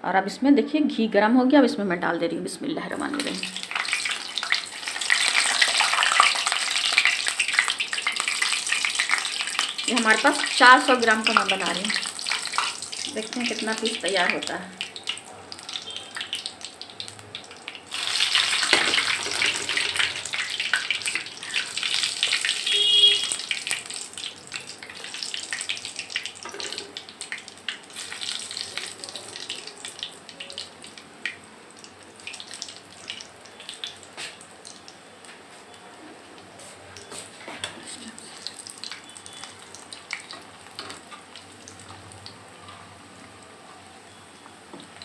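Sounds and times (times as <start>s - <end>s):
dough deep-frying in oil: 2.9s - 45.0s.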